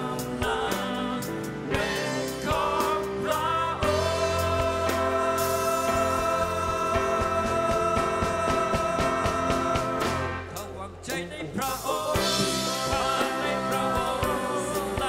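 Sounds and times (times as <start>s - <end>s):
keyboard and bass guitar: 0.0s - 15.0s
man singing worship song: 0.0s - 15.0s.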